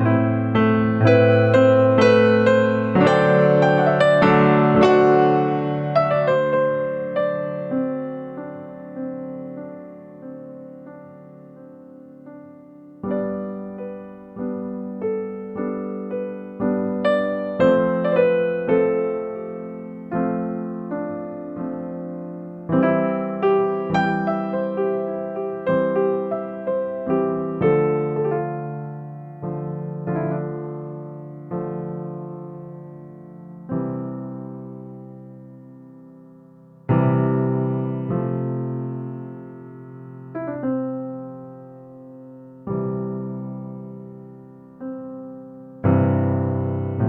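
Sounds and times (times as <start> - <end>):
soft piano chords: 0.0 - 47.0.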